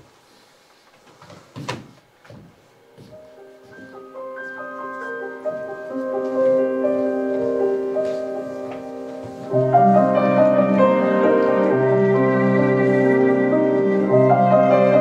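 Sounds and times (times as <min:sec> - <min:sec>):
instrumental music of held notes: 0:02.8 - 0:15.0.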